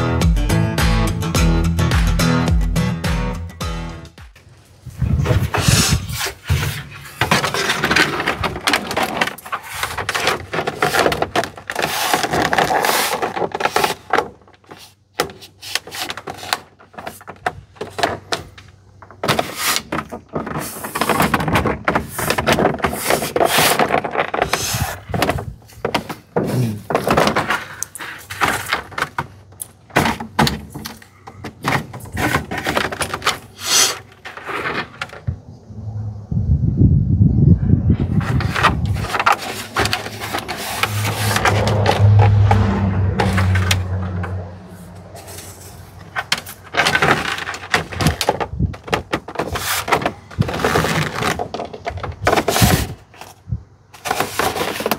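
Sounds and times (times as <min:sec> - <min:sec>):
plastic scraping and knocking: 0:04.9 - 0:35.5, 0:37.9 - 0:54.9.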